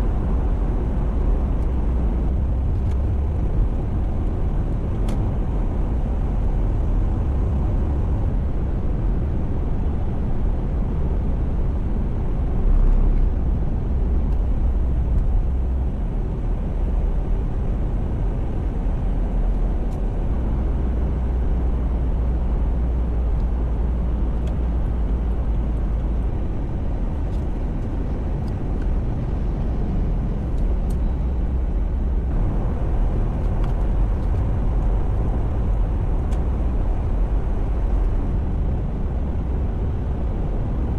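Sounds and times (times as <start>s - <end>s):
car driving in traffic: 0.0s - 40.9s.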